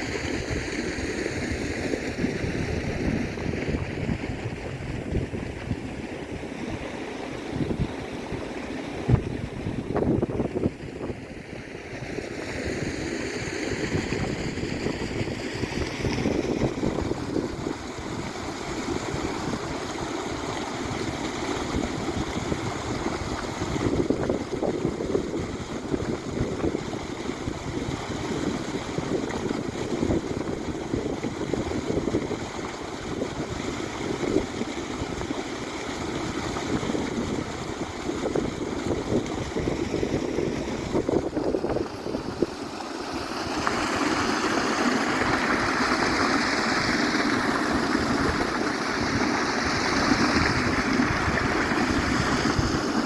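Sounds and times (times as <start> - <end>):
wind on microphone: 0.0 - 53.0.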